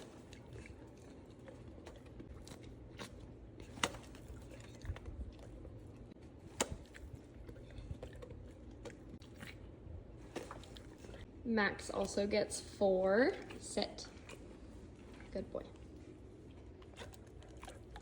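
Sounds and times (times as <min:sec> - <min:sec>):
dog chewing and crunching: 0:00.0 - 0:18.0.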